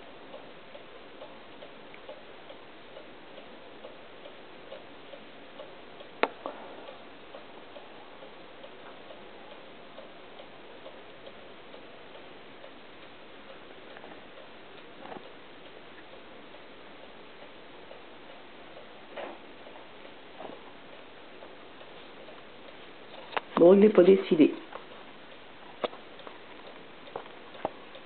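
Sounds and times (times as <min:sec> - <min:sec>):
faint steady ticking: 0:00.0 - 0:28.0.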